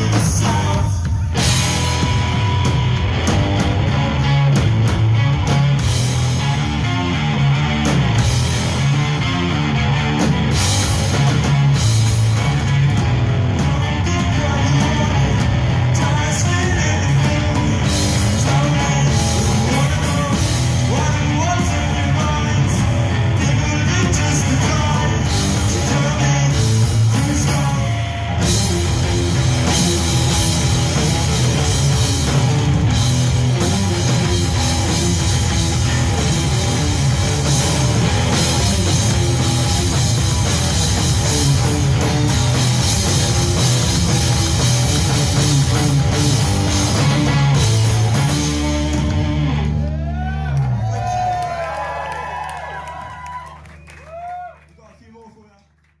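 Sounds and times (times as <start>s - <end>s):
live rock band playing: 0.0s - 54.3s.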